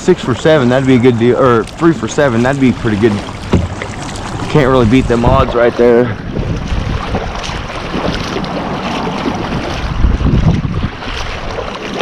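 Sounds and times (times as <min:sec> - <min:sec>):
paddle splashing in water: 0:00.0 - 0:12.0
wind buffeting microphone: 0:00.0 - 0:12.0.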